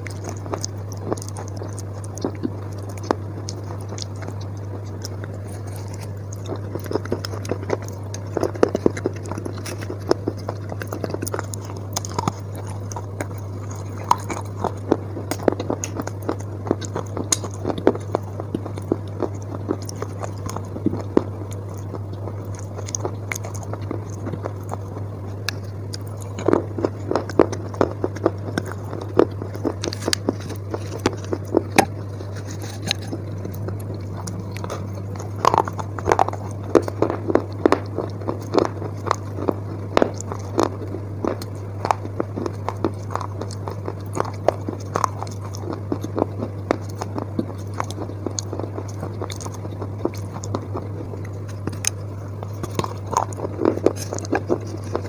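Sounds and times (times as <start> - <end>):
chewing crunches: 0.0 - 55.0
steady low hum: 0.0 - 55.0.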